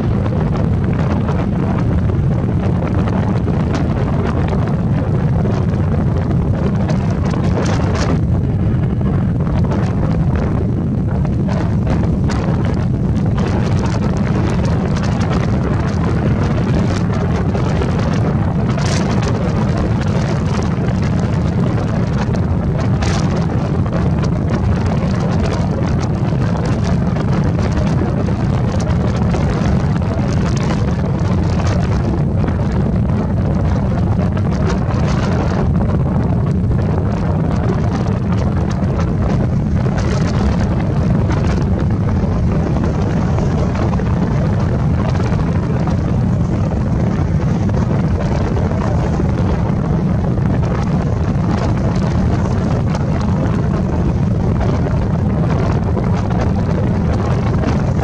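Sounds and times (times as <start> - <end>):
distant jet engines: 0.0 - 58.0
wind buffeting microphone: 0.0 - 58.0.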